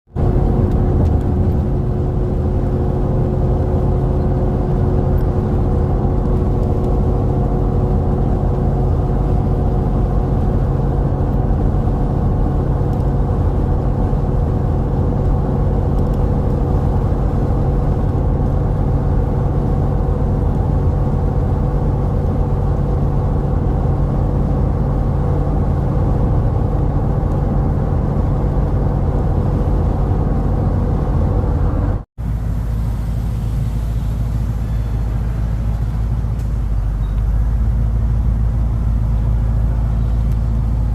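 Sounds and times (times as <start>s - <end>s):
vehicle engine and road rumble: 0.0s - 40.9s.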